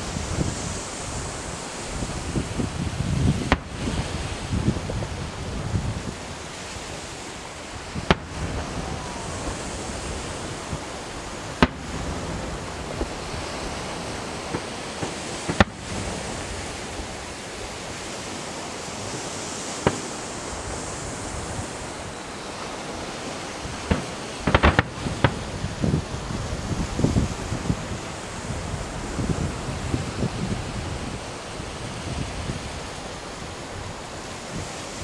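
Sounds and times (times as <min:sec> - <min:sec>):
fireworks bangs: 0:00.0 - 0:30.4
wind noise: 0:00.0 - 0:35.0.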